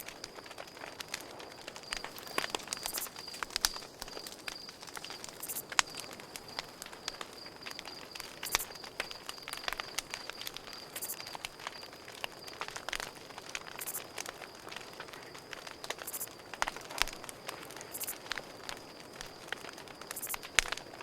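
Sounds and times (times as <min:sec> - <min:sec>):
campfire crackling: 0:00.0 - 0:21.0
crickets chirping: 0:00.0 - 0:21.0.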